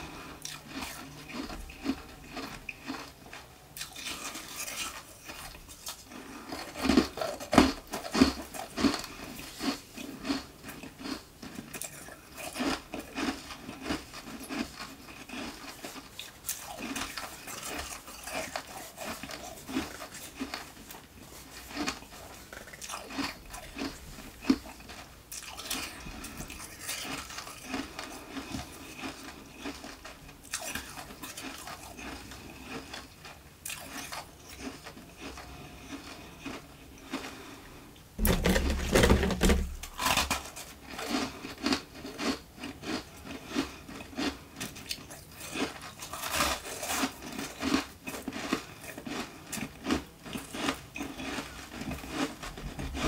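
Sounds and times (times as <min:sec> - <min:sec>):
ice being chewed: 0:00.0 - 0:53.0.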